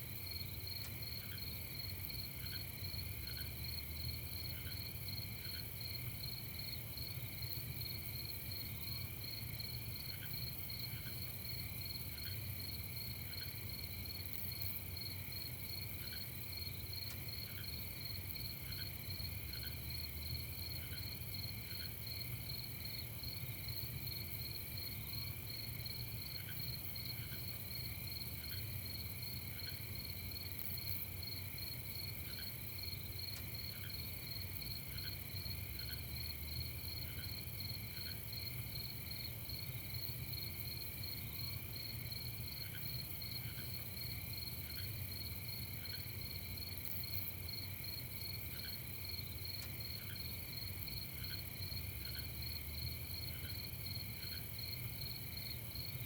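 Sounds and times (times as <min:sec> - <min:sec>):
crickets trilling: 0:00.2 - 0:56.0.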